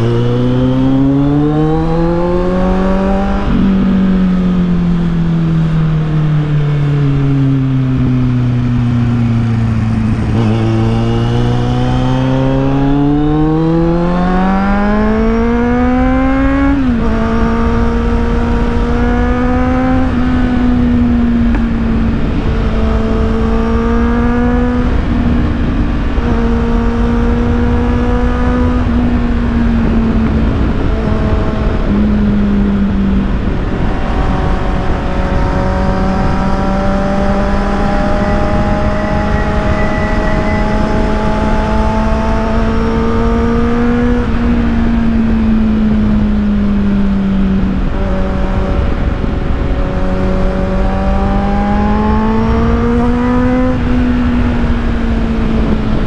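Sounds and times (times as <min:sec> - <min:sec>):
motorcycle engine revving: 0:00.0 - 0:56.0
wind on microphone: 0:00.0 - 0:56.0.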